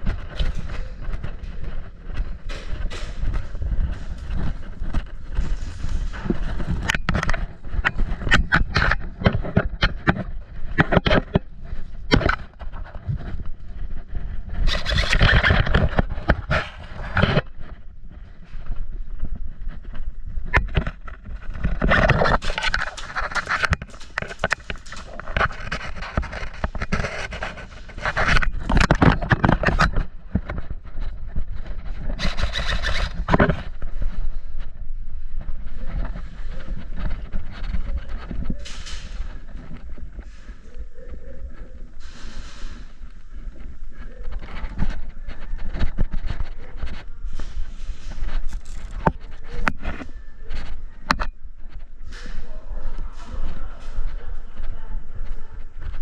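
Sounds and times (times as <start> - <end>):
scraping noise: 0.0 - 34.7, 35.4 - 56.0.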